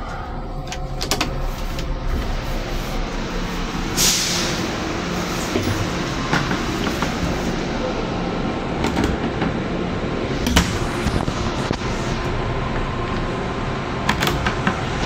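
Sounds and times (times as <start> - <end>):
railcar rumble: 0.0 - 15.0.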